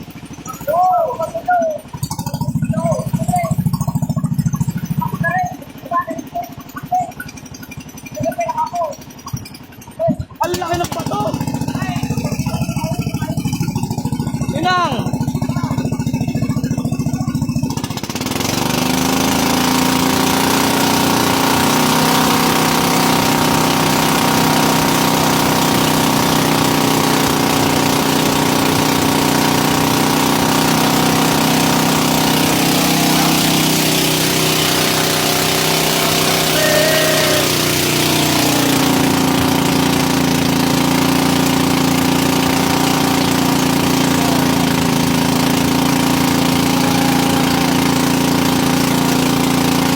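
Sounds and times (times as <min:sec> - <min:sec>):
boat engine running: 0:00.0 - 0:49.9.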